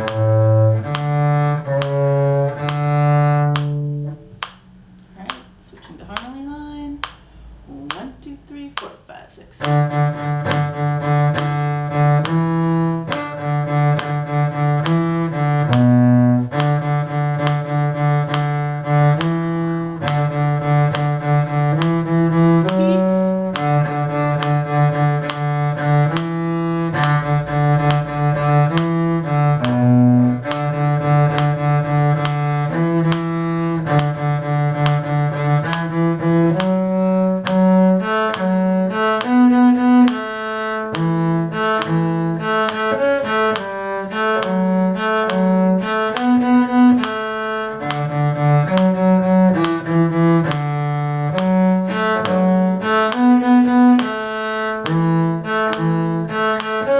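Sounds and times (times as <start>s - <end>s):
cello playing slow bowed notes: 0.0s - 4.9s, 9.6s - 56.9s.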